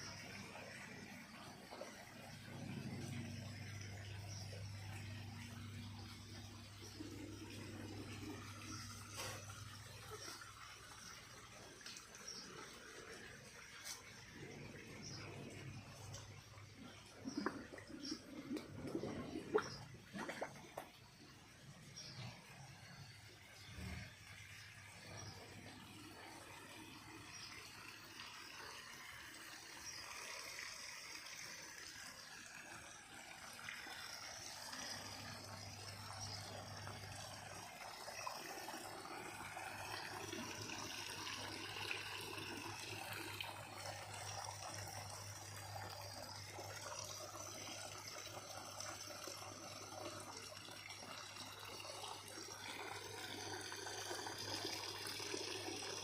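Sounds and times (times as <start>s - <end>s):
faint trickling water: 0.0s - 56.0s.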